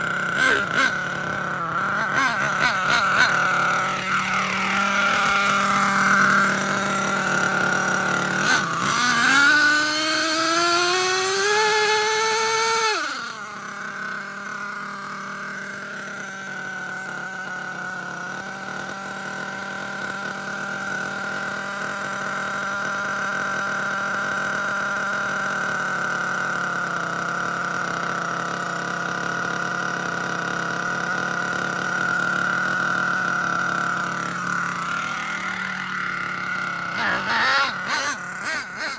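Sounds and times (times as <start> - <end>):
model engine revving and droning: 0.0 - 38.9.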